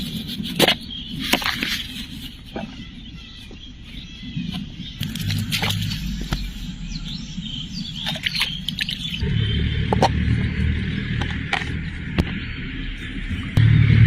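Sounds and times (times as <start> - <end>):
birds chirping: 0.0 - 13.6
low steady hum: 0.9 - 14.0.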